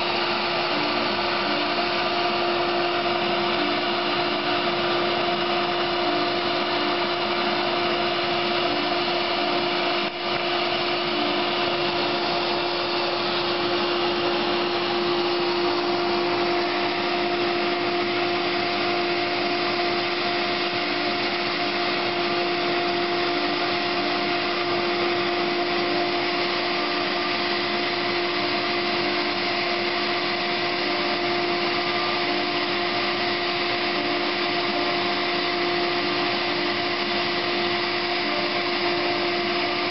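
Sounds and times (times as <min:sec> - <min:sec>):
dust extraction rush: 0:00.0 - 0:39.9
router spindle whine: 0:00.0 - 0:39.9.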